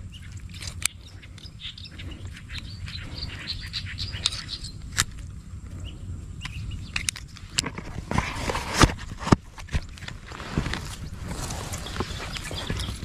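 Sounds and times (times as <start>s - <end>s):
small birds chirping: 0.0s - 7.6s, 9.8s - 13.0s
steady low rumble: 0.0s - 13.0s.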